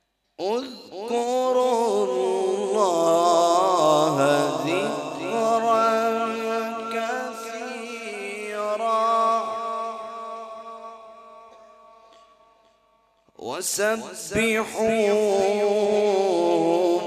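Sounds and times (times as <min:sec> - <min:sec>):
man reciting melodically: 0:00.3 - 0:12.7, 0:13.3 - 0:17.0.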